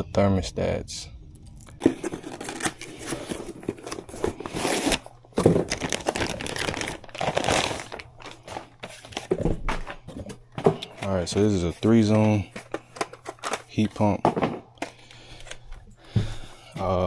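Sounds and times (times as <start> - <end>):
rustling and crinkling handling noise: 1.5 - 17.0.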